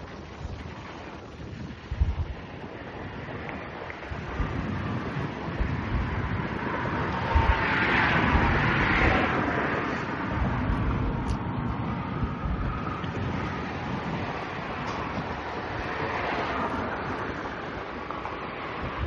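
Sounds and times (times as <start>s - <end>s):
wind buffeting microphone: 0.0s - 19.0s
passing vehicle rushing: 1.6s - 19.0s.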